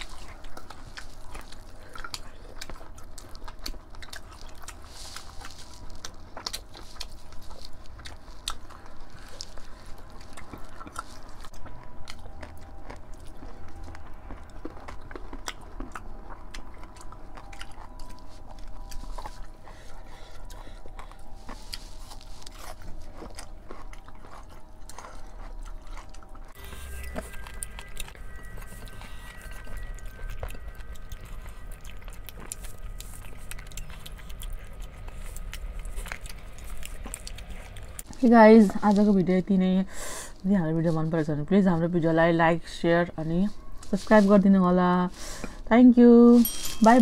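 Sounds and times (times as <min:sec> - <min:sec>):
chewing with mouth clicks: 0:00.0 - 0:39.5
soft background music: 0:00.0 - 0:47.0.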